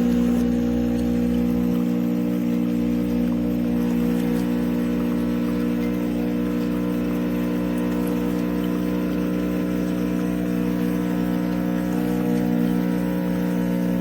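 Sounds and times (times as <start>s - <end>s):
espresso machine pump humming: 0.0s - 14.0s.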